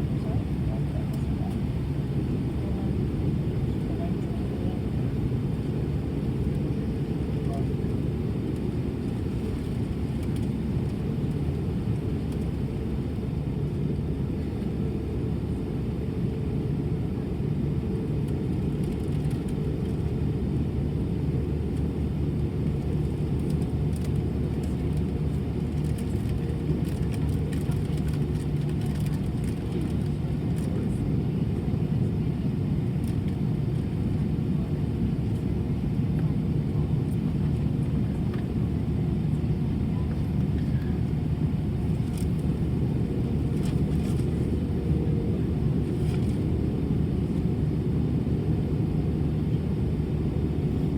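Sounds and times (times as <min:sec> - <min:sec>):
jet engine and airflow rumble: 0:00.0 - 0:50.9.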